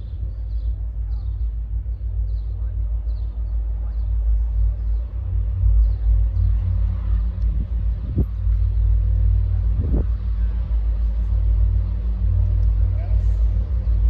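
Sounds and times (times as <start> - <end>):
approaching train rumble: 0.0 - 14.0
faint steady hum: 0.0 - 14.0.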